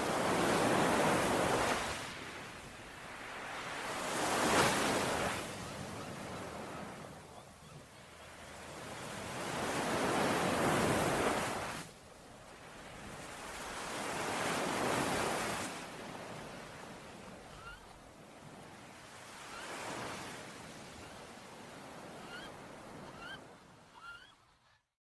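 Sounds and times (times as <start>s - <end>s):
sea waves washing on shore: 0.0s - 7.2s, 8.3s - 23.0s.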